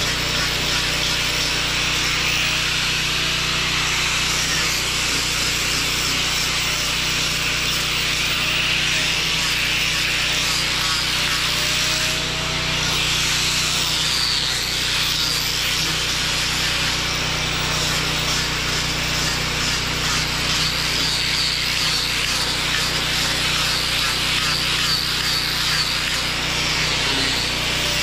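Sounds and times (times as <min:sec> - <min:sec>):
electric sander on wood: 0:00.0 - 0:28.0.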